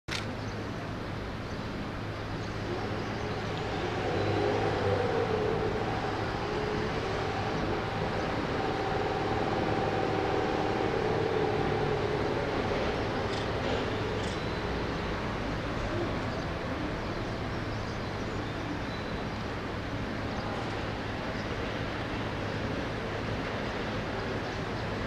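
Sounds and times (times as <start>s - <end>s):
electric freight train rumbling: 0.9s - 25.0s.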